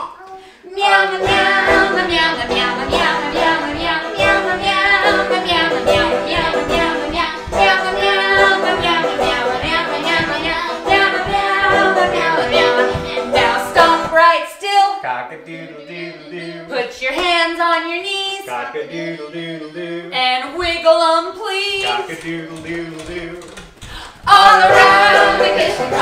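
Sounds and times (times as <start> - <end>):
children's sing-along song: 0.0 - 26.0.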